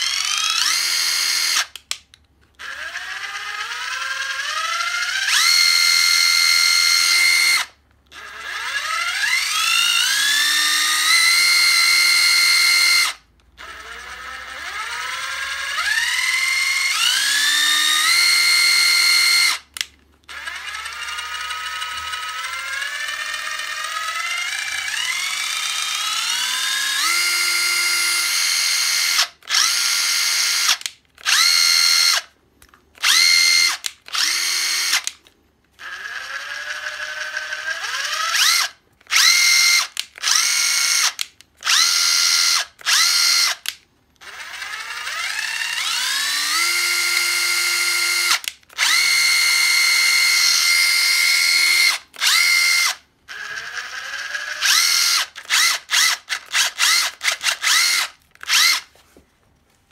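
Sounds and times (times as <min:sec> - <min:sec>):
impact driver motor whine: 0:00.0 - 0:01.7, 0:02.6 - 0:19.6, 0:20.3 - 0:32.3, 0:33.0 - 0:35.1, 0:35.8 - 0:58.9.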